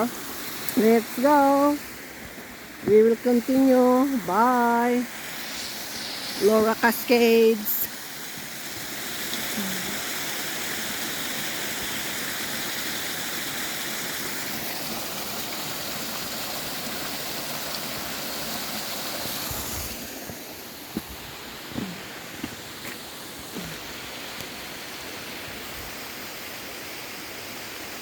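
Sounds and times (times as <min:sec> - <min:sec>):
creek water rushing over rocks: 0:00.0 - 0:28.0.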